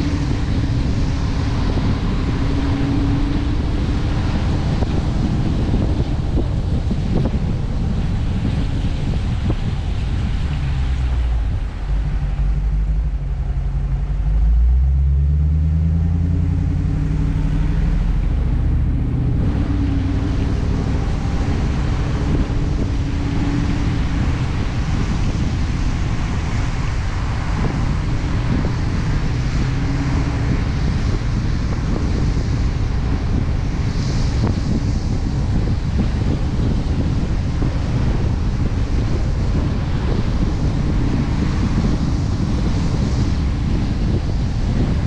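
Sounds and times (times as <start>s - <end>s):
car engine accelerating: 0.0s - 45.0s
wind noise: 0.0s - 45.0s.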